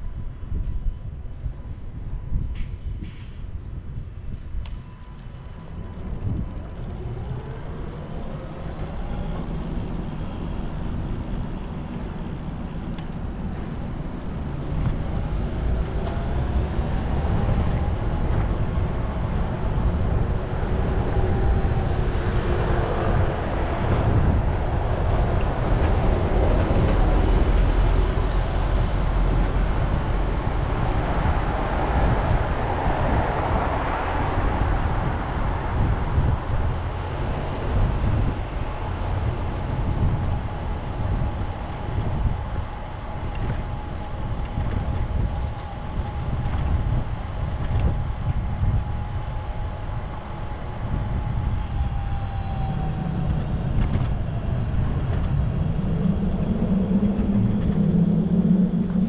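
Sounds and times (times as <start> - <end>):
bicycle road noise: 0.0 - 59.0
wind rumbling on microphone: 0.0 - 59.0
motor traffic passing: 4.8 - 59.0.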